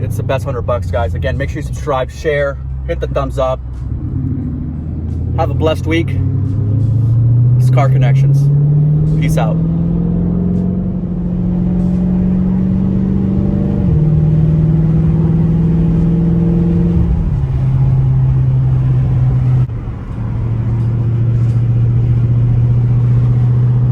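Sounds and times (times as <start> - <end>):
car exhaust roaring while driving: 0.0 - 23.9.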